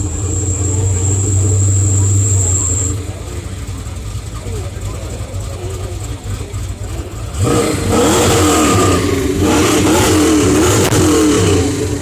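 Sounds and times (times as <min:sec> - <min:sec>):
car engine revving: 0:00.0 - 0:12.0
engine idling rumble: 0:00.0 - 0:12.0.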